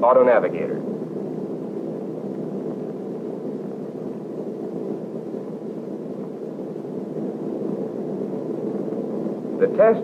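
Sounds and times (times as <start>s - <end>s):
low drone-like noise: 0.0s - 10.0s.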